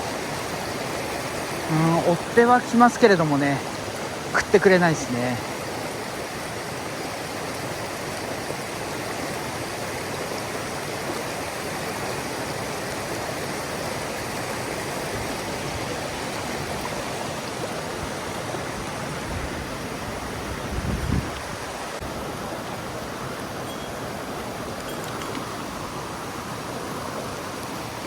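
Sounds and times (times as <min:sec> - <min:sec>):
stream water rushing over rocks: 0:00.0 - 0:28.0.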